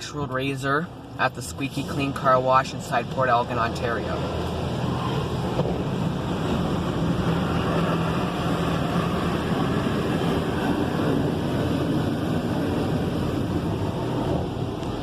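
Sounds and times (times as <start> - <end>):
car wash rushing noise: 0.0 - 15.0
car engine running: 1.2 - 15.0.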